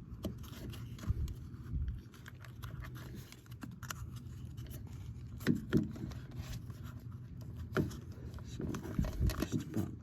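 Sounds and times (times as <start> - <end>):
rubber rubbing and scraping: 0.0 - 10.0.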